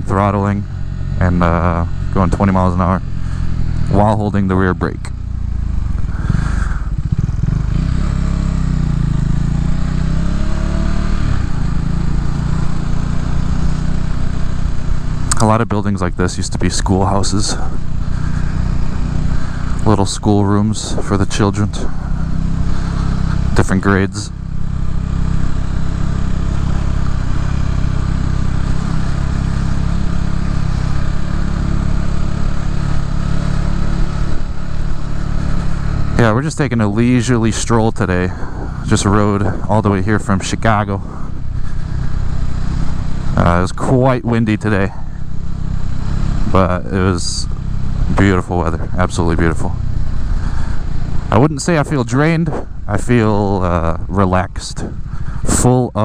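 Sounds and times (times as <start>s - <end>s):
motorcycle engine at low revs: 0.0s - 56.0s
steady rushing hiss: 8.1s - 55.5s.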